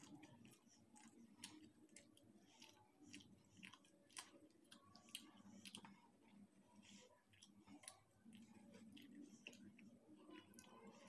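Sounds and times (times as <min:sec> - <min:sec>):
close-miked chewing: 0:00.0 - 0:11.0.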